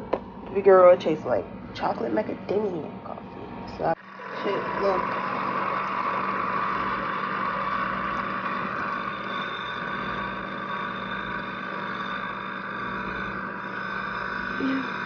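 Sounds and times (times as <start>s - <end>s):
coffee maker humming: 0.0s - 15.0s.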